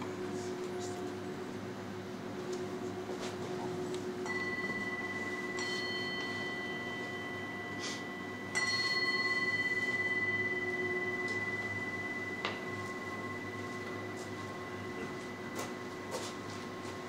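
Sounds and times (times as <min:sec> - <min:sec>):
low steady bowl hum: 0:00.0 - 0:17.0
singing bowl struck ringing: 0:02.5 - 0:17.0.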